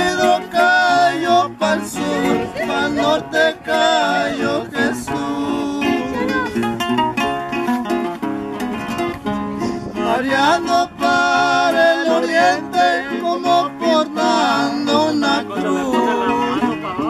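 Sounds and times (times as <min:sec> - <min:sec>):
man singing: 0:00.0 - 0:06.6, 0:09.8 - 0:17.0
acoustic guitars playing: 0:00.0 - 0:17.0.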